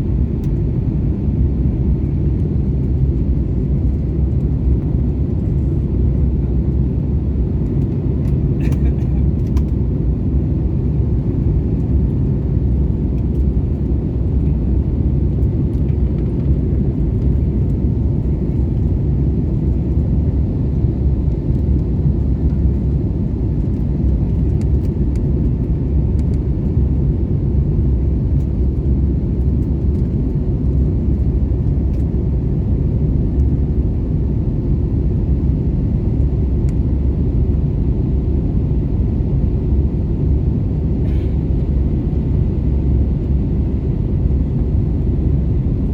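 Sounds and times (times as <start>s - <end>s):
airliner engines rumbling in cabin: 0.0s - 45.9s.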